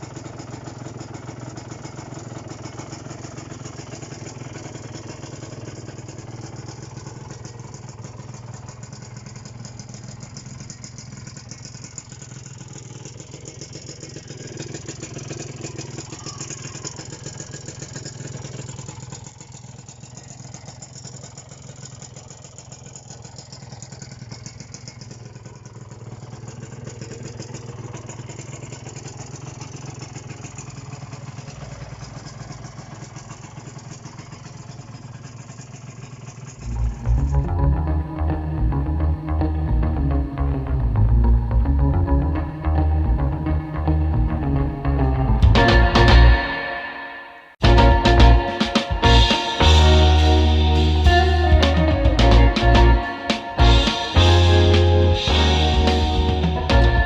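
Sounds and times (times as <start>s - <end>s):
motorcycle engine idling: 0.0s - 46.6s, 47.6s - 57.0s.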